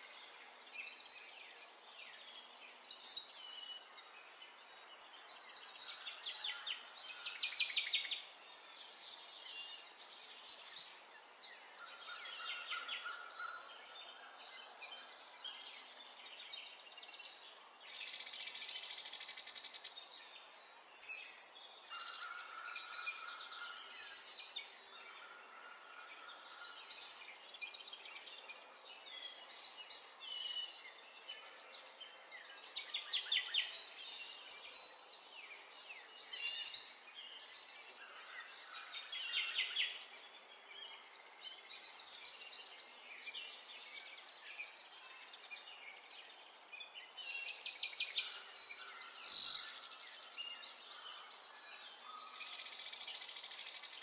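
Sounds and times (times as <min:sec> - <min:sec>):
birds chirping and trilling: 0:00.1 - 0:54.0.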